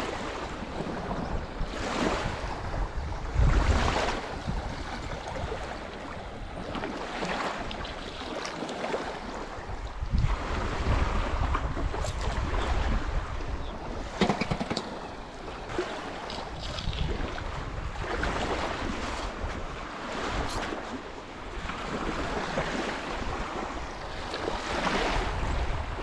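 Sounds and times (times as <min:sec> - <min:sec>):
wind rumbling on microphone: 0:00.0 - 0:08.0, 0:09.1 - 0:26.0
lake waves on rocky beach: 0:00.0 - 0:26.0.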